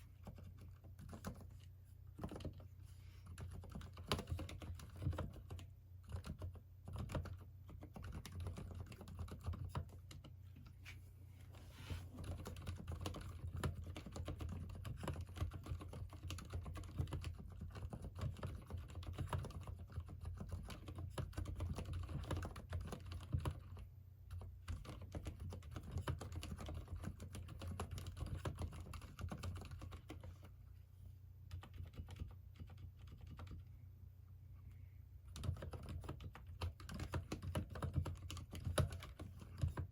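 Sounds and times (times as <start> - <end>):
fast typing on mechanical keyboard: 0.2 - 1.5, 2.2 - 2.6, 3.2 - 10.3, 12.2 - 30.3, 31.5 - 33.7, 35.3 - 39.9.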